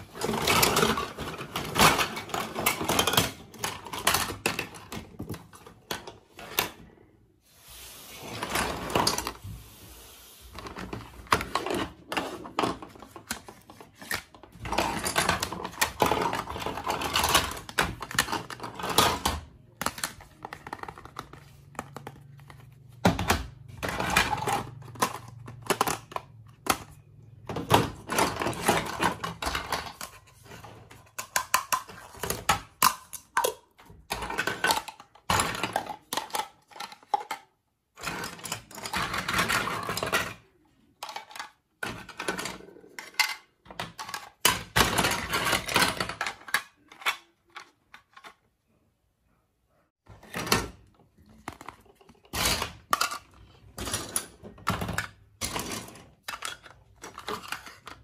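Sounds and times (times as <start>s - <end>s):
plastic toy pieces clattering: 0.0s - 6.9s, 10.6s - 48.4s, 50.1s - 58.0s.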